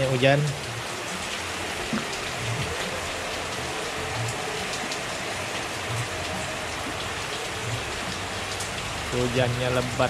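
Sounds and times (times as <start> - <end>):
heavy rain falling: 0.0 - 10.0
raindrops ticking on a surface: 0.0 - 10.0.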